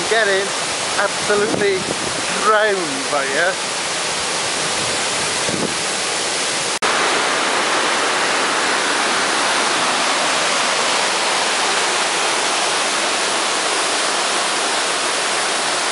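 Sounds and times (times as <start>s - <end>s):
waterfall rushing: 0.0s - 15.9s.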